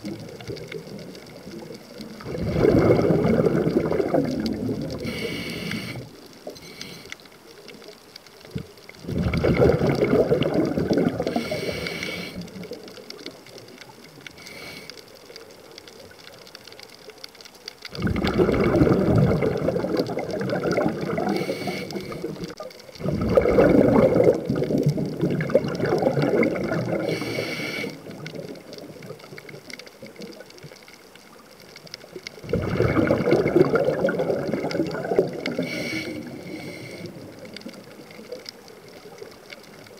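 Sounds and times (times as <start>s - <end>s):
underwater exhaust bubbles gurgling: 0.0s - 39.9s.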